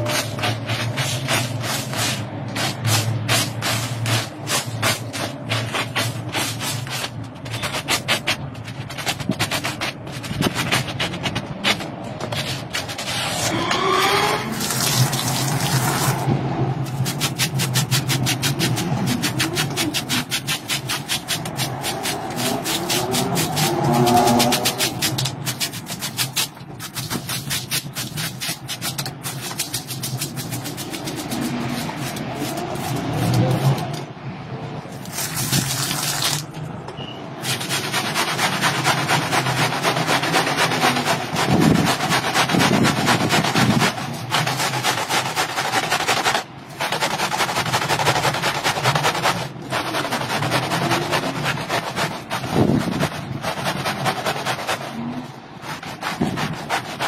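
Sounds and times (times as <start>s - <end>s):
push broom scrubbing wet rug: 0.0s - 34.0s, 34.9s - 36.5s, 37.4s - 57.0s.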